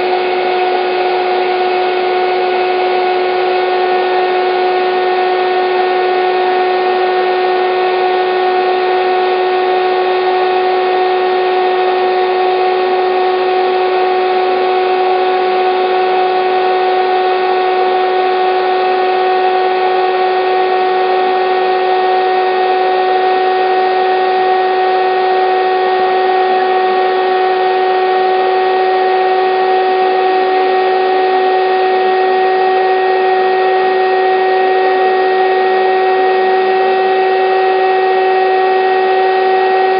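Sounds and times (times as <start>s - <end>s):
air pump motor hum: 0.0s - 39.9s.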